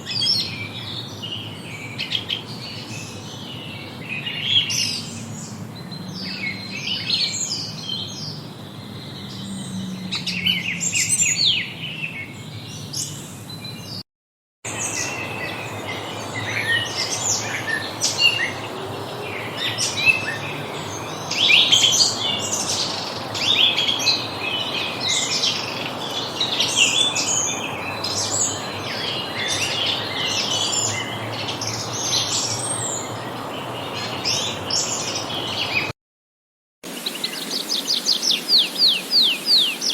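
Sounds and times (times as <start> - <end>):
songbirds singing: 0.0 - 14.0, 14.7 - 35.9, 36.9 - 39.9.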